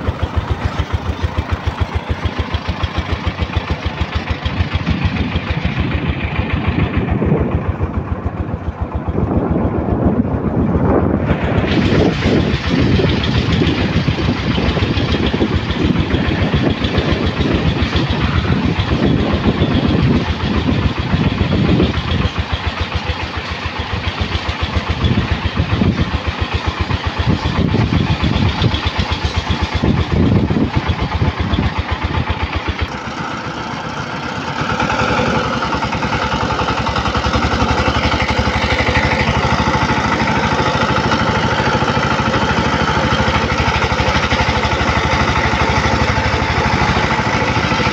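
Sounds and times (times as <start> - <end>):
single-cylinder diesel engine running: 0.0 - 47.9.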